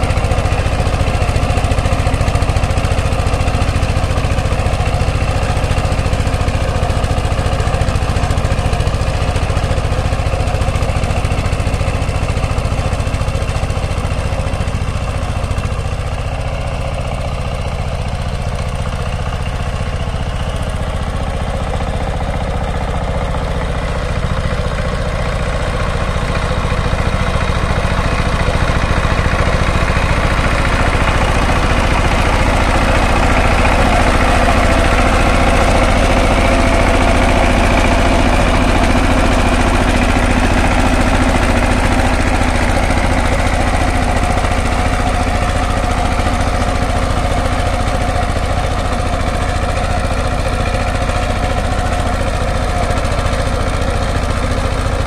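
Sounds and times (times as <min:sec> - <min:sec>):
diesel power tiller engine running: 0:00.0 - 0:55.0.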